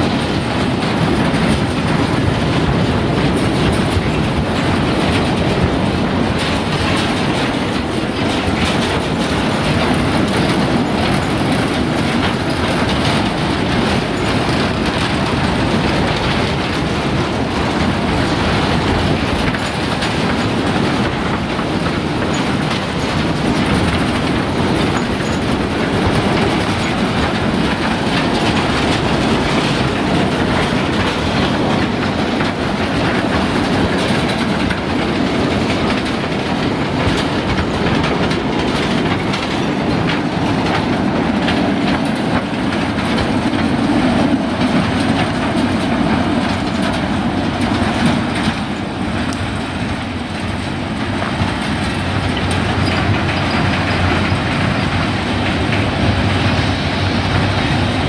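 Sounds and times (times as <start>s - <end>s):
wagons rolling on track: 0.0s - 58.0s.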